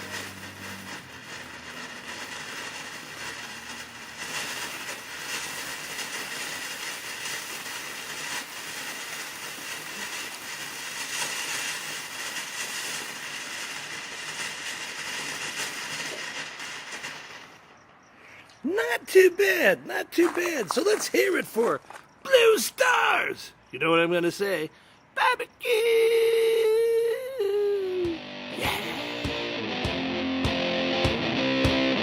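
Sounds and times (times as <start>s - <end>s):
fountain firework hissing: 0.0s - 23.3s, 25.2s - 29.6s.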